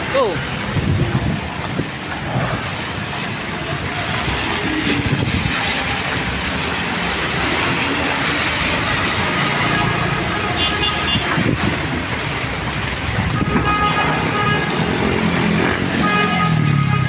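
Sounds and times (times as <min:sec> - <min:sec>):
tyres hissing on wet road: 0:00.0 - 0:16.8
heavy rain: 0:00.0 - 0:17.0
traffic on wet road: 0:00.0 - 0:17.0.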